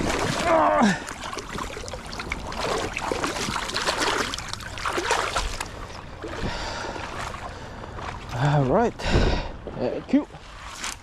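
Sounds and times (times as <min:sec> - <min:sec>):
river water splashing and trickling: 0:00.0 - 0:11.0.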